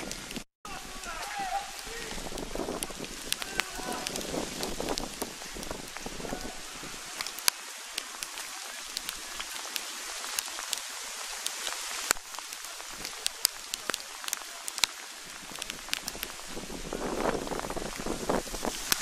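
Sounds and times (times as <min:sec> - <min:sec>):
raindrops ticking near microphone: 0:00.0 - 0:19.0
steady rain hiss: 0:00.0 - 0:19.0.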